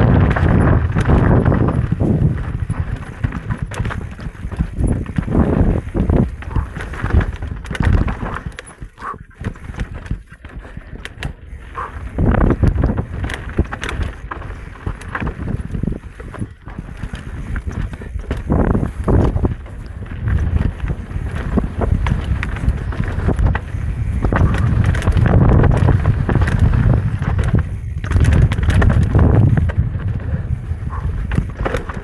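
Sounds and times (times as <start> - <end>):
bike knocks and rattles: 0.0 - 32.0
tyres on dirt trail: 0.0 - 32.0
wind buffeting microphone: 0.0 - 32.0.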